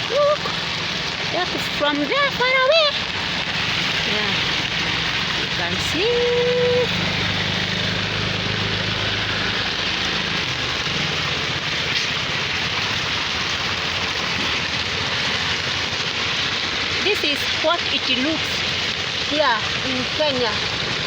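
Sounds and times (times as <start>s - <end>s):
heavy rain pouring: 0.0s - 21.0s
vehicle engine humming: 0.0s - 21.0s.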